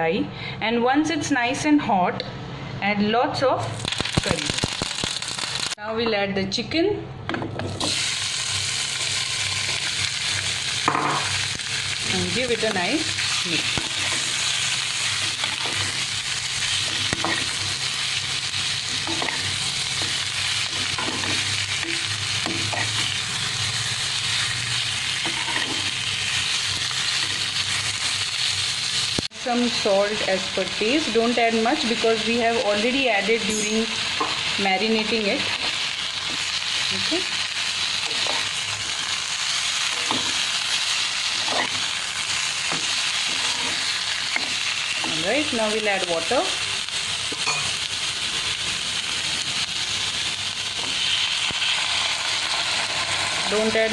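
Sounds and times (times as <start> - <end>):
chicken sizzling in hot oil: 3.8 - 5.8, 7.8 - 53.9.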